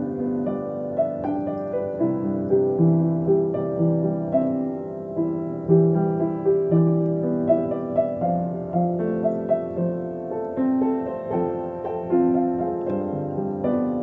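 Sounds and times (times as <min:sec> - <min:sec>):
solo piano slow melody: 0:00.0 - 0:14.0.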